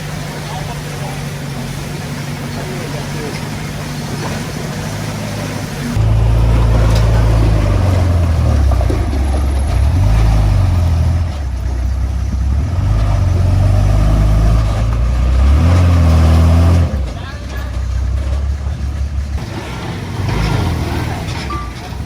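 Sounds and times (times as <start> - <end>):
heavy diesel engine under load: 0.0 - 22.0.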